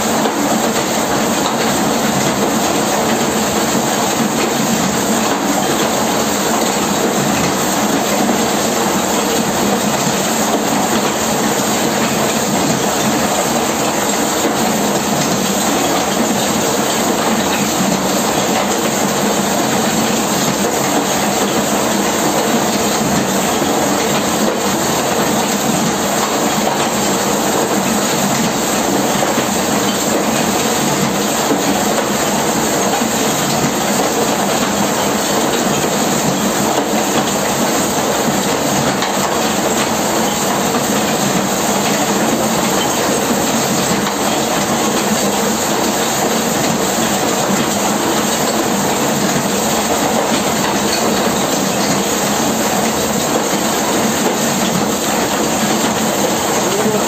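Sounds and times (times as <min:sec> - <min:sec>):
rotating drum rattling clatter: 0:00.0 - 0:57.0.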